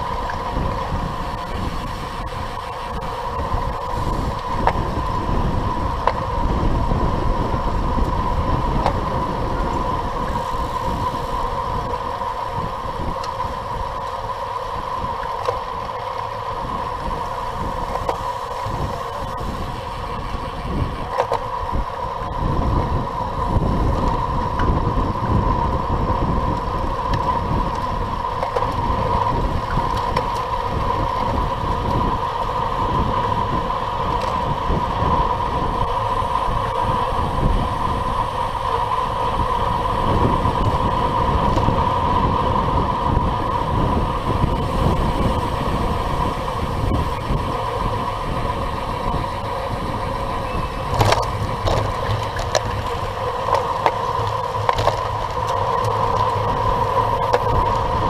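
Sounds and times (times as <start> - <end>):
steady high hum: 0.0 - 58.0
tyre and road noise: 0.0 - 58.0
wind buffeting camera microphone: 0.0 - 58.0.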